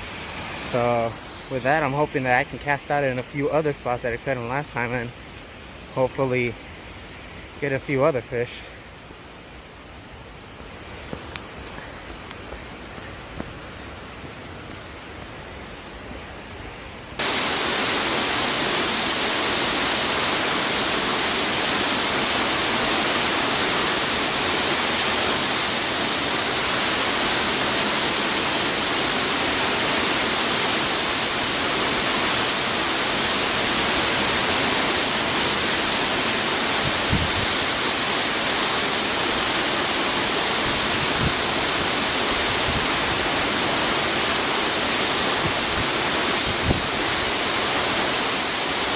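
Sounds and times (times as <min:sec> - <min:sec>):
waterfall rushing into pool: 0:00.0 - 0:48.9.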